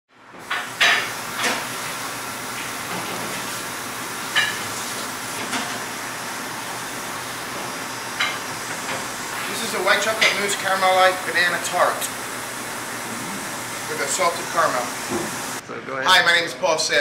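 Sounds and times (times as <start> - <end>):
kitchen background hiss: 0.3 - 15.6.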